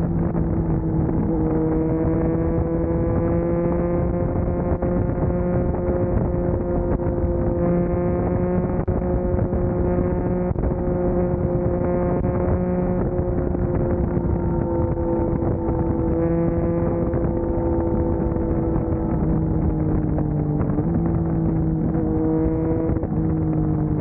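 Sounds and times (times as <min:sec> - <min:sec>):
motorcycle engine cruising: 0:00.0 - 0:24.0
wind on microphone: 0:00.0 - 0:24.0.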